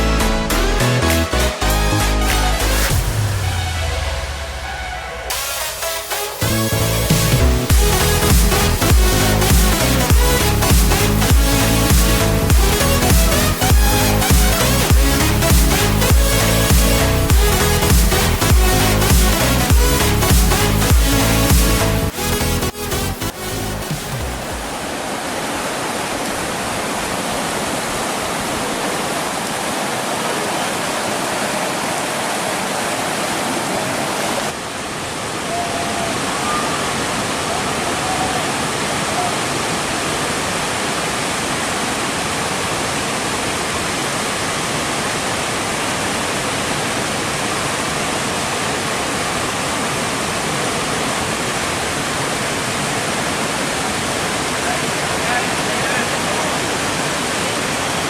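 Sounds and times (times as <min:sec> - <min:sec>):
fast-flowing river water: 0:00.2 - 0:58.0.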